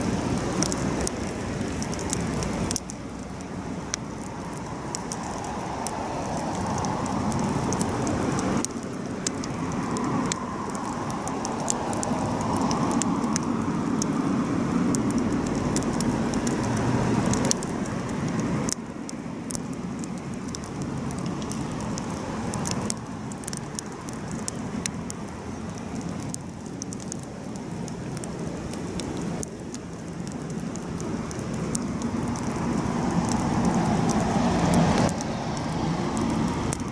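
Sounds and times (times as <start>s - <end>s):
burning wood crackling and popping: 0.0s - 36.9s
campfire flames rushing: 0.0s - 36.9s.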